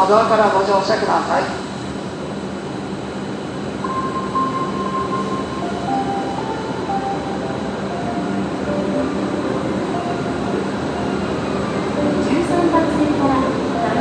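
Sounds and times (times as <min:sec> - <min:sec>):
train hum: 0:00.0 - 0:14.0.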